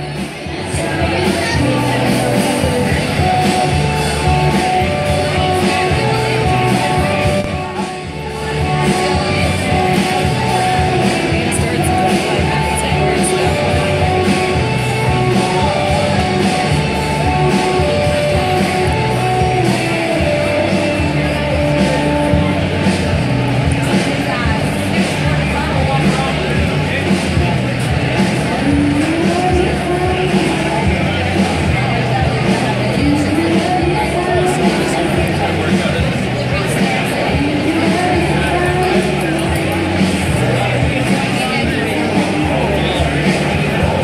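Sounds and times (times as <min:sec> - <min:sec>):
live rock band playing: 0:00.0 - 0:44.0
person singing: 0:00.0 - 0:44.0.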